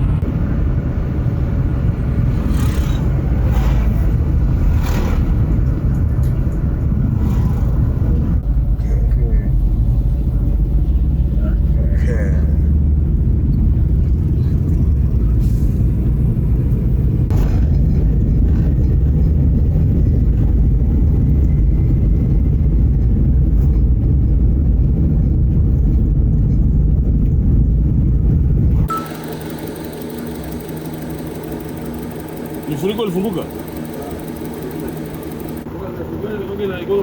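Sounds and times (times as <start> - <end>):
car driving on road: 0.0 - 37.0.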